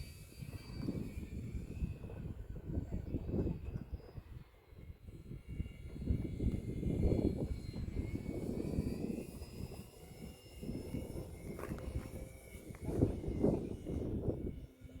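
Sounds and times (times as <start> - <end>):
model plane motor whine: 0.0 - 15.0
wind rumble on microphone: 0.0 - 15.0.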